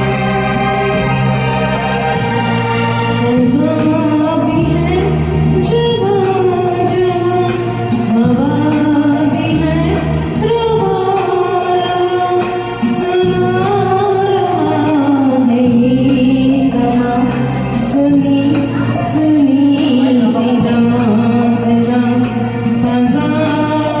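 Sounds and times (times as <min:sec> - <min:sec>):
karaoke backing track: 0:00.0 - 0:24.0
woman singing: 0:00.0 - 0:24.0.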